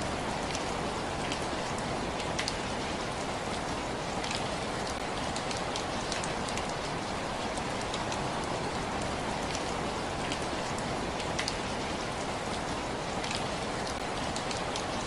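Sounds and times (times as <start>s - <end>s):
raindrops ticking on a surface: 0.0s - 15.0s
steady rain hiss: 0.0s - 15.0s.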